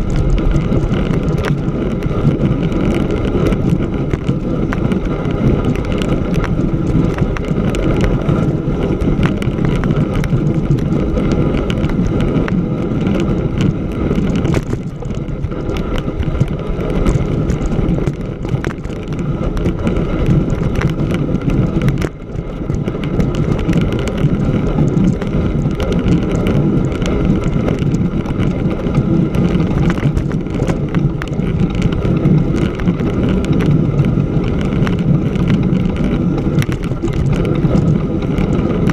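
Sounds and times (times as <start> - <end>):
bicycle tyre rolling on snow: 0.0 - 38.9.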